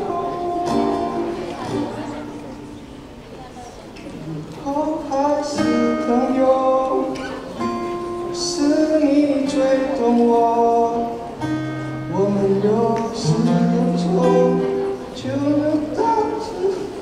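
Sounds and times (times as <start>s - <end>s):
person singing a slow ballad: 0.0s - 2.2s, 4.3s - 17.0s
strummed acoustic guitar: 0.0s - 3.2s, 4.3s - 17.0s.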